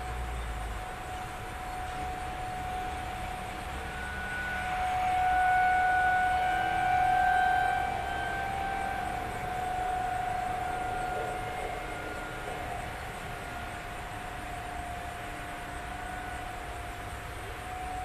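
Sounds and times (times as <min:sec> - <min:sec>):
tornado siren steady tone: 0:00.0 - 0:18.0.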